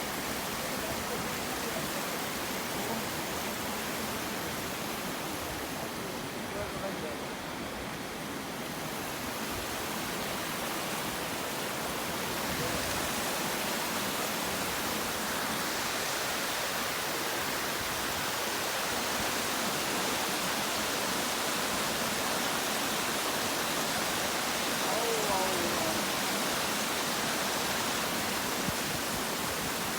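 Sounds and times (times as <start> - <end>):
rush of flowing water: 0.0 - 29.9.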